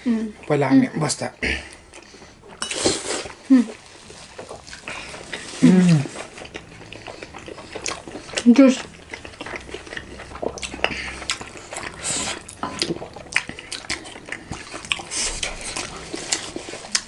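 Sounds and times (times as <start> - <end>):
wet chewing and slurping: 0.3 - 17.0.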